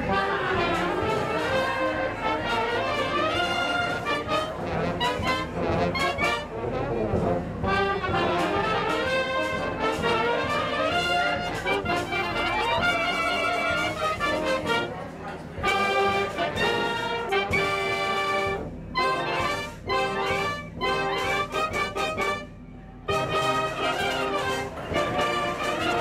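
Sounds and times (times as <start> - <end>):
brass instruments playing melody: 0.0 - 26.0.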